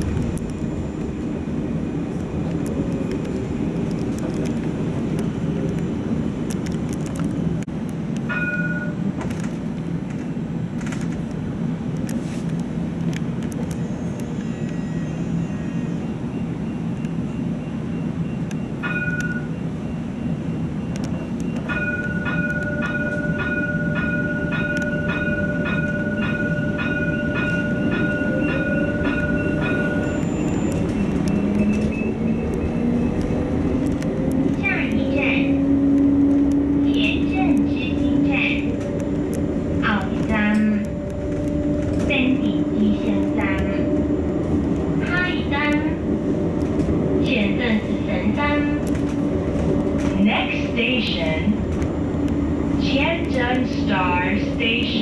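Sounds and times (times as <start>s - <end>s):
tram running noise: 0.0s - 55.0s.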